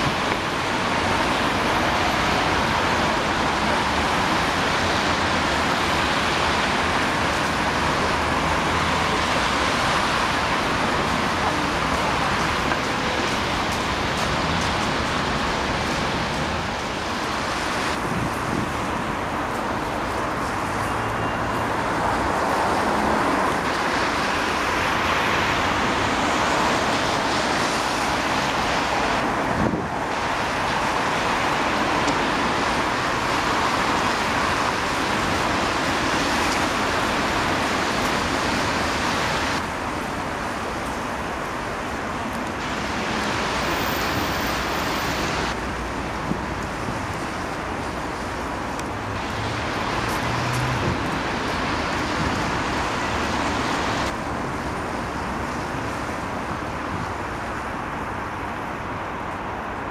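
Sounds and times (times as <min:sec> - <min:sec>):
dense city road traffic: 0:00.0 - 0:59.9.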